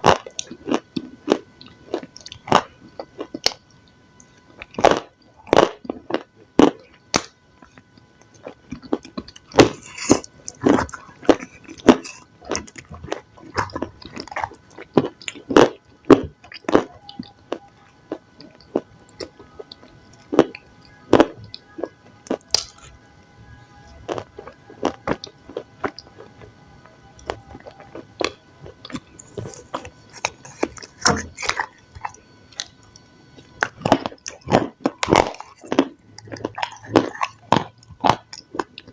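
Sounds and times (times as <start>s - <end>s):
crunchy chewing of food: 0.0s - 38.9s.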